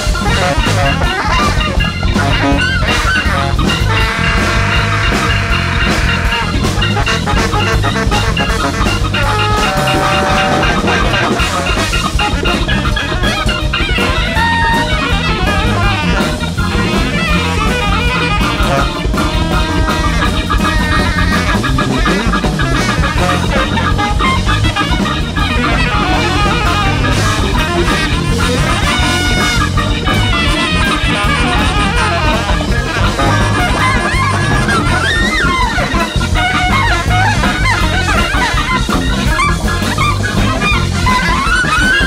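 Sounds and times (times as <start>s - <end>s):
big band playing jazz: 0.0s - 42.0s
drum kit: 0.0s - 42.0s
electric guitar: 0.0s - 42.0s.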